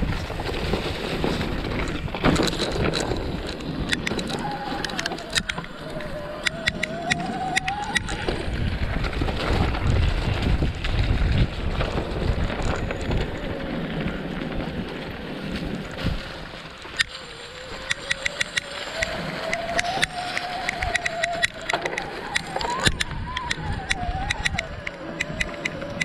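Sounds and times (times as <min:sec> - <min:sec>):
bike rattling and clicking: 0:00.0 - 0:26.0
wind buffeting microphone: 0:00.0 - 0:26.0.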